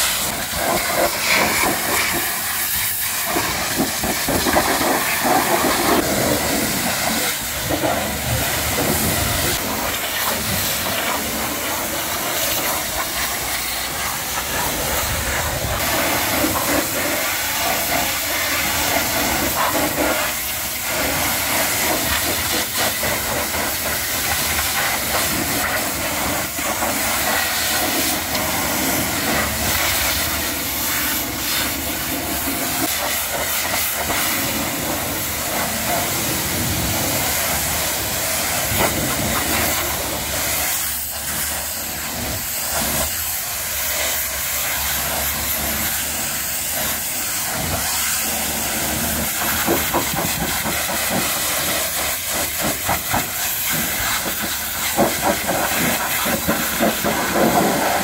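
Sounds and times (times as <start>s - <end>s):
pressure washer hissing: 0.0s - 58.0s.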